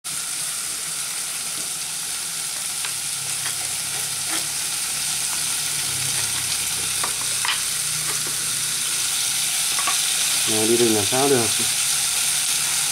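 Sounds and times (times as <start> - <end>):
wood fire hissing and crackling: 0.1 - 12.9.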